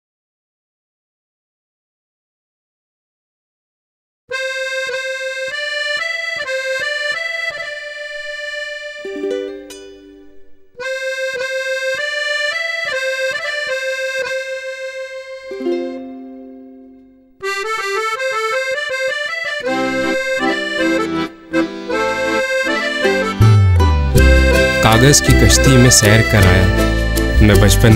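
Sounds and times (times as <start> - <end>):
sustained melody line: 4.3 - 27.9
ticking plucked rhythm: 4.3 - 27.9.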